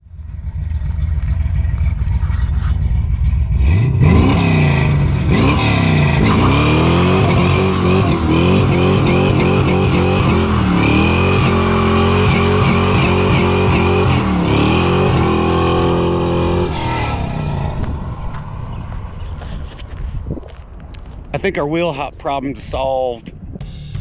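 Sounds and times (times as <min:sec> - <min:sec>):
car engine revving: 0:00.0 - 0:19.7.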